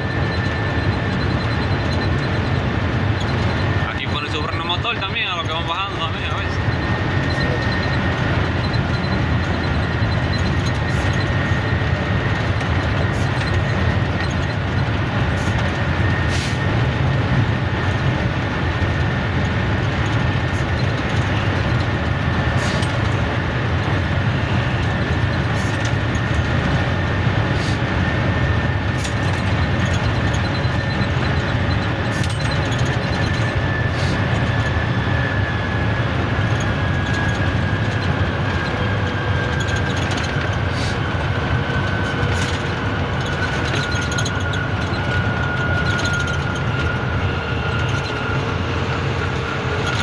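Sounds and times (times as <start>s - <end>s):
faint steady whine: 0.0s - 50.0s
truck engine and road rumble: 0.0s - 50.0s.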